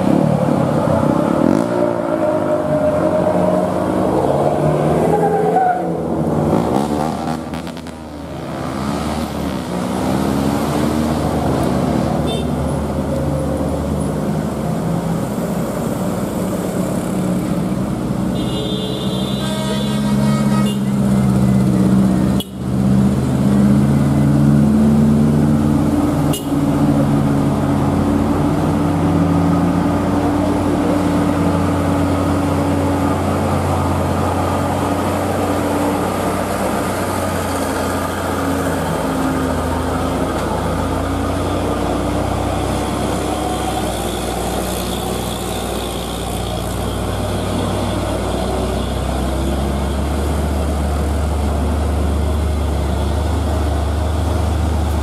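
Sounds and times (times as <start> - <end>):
heavy diesel truck engines: 0.0 - 55.0.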